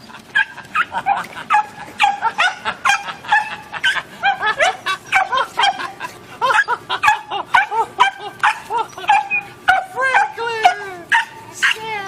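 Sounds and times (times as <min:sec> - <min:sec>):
dogs yipping and whining: 0:00.0 - 0:12.0.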